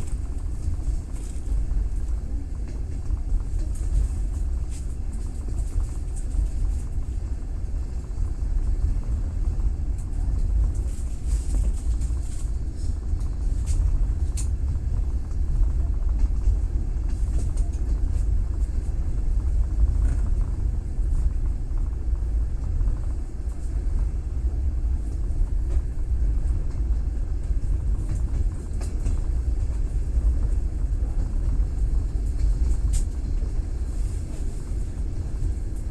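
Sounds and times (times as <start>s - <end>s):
train rumble on rails: 0.0s - 35.9s.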